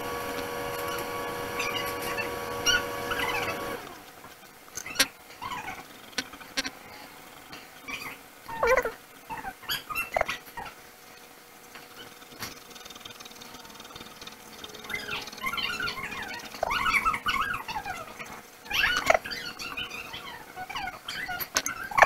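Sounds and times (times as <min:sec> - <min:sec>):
pet whining and squeaking: 0:00.0 - 0:04.1, 0:04.7 - 0:06.8, 0:07.8 - 0:10.8, 0:11.8 - 0:22.0.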